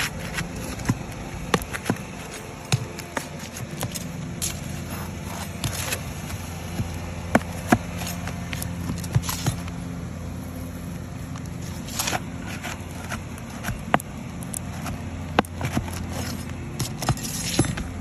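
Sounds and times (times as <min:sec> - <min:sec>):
tool scraping roof shingles: 0:00.0 - 0:09.9, 0:11.3 - 0:18.0
low motor hum: 0:00.0 - 0:18.0.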